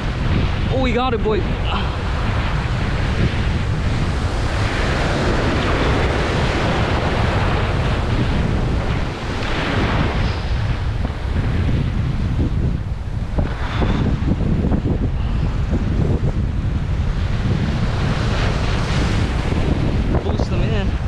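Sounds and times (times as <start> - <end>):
surf washing over rocks: 0.0 - 21.0
wind buffeting the microphone: 0.0 - 21.0.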